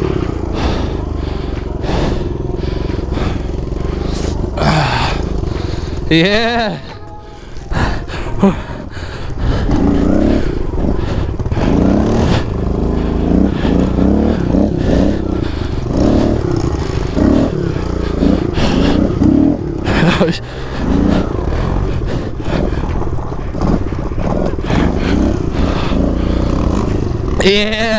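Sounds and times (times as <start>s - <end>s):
motorbike engine revving: 0.0s - 27.9s.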